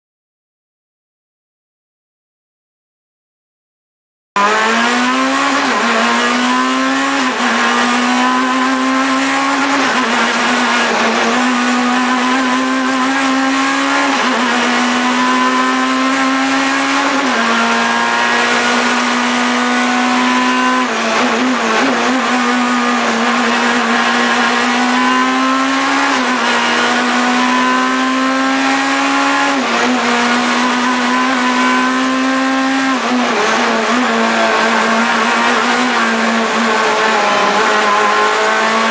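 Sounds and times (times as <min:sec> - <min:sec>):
rally car engine revving: 0:04.4 - 0:38.9.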